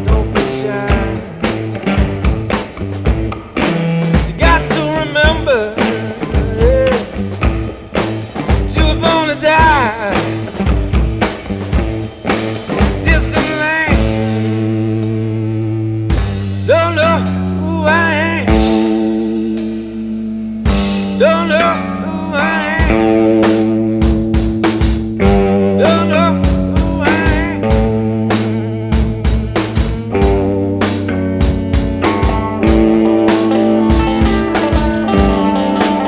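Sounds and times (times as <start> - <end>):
rock music with drums and guitar: 0.0 - 36.0.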